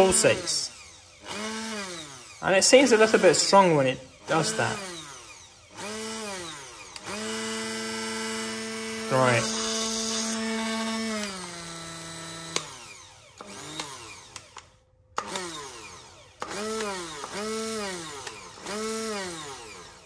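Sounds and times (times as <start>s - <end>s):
hand blender motor humming: 0.0s - 20.0s.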